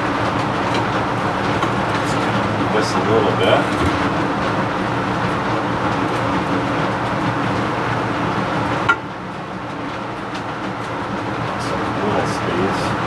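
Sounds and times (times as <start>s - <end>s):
blower fan hum: 0.0s - 13.0s.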